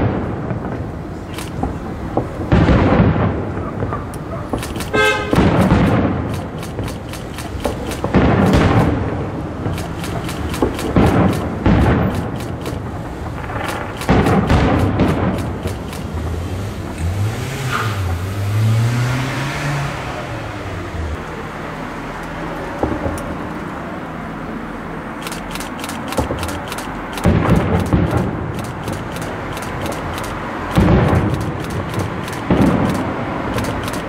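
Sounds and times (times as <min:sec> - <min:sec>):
fireworks bursts: 0:00.0 - 0:17.0, 0:22.4 - 0:23.9, 0:25.1 - 0:34.0
fireworks crackling: 0:00.0 - 0:17.0, 0:22.3 - 0:24.0, 0:25.2 - 0:34.0.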